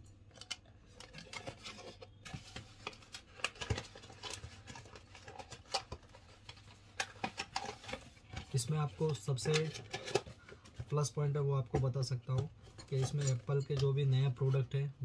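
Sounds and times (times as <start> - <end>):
cardboard and paper rustling: 0.9 - 14.7.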